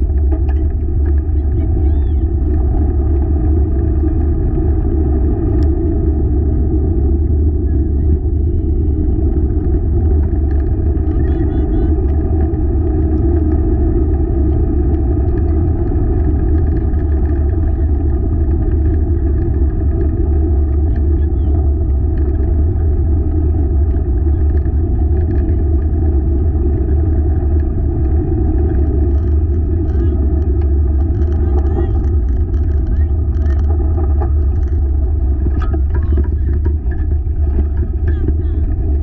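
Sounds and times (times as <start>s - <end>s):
wheels rolling on trail: 0.0s - 39.0s.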